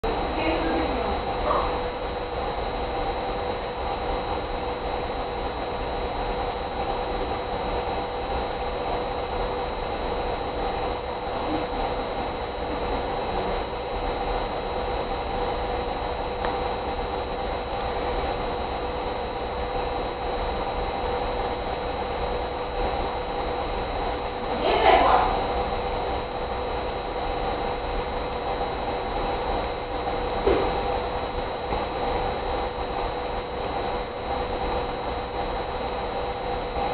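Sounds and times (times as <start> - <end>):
electrical hum: 0.0 - 36.9
steady hiss: 0.0 - 36.9.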